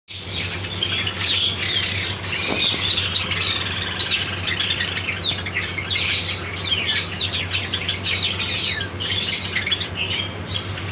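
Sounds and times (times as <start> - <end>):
lovebirds chirping and squawking: 0.1 - 10.9
steady low hum: 0.1 - 10.9.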